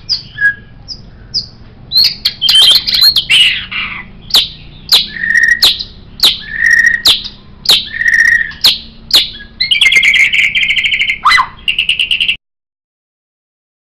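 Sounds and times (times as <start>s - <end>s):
bird singing with whistles and trills: 0.0s - 12.4s.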